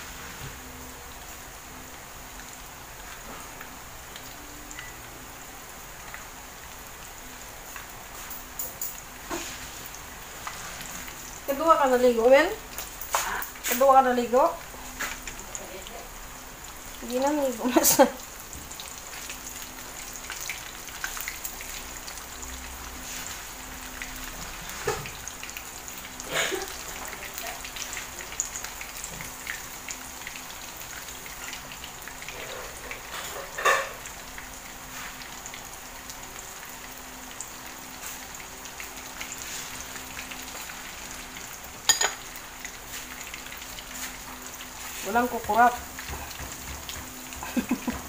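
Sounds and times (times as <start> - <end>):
fish frying in oil: 0.0 - 48.0.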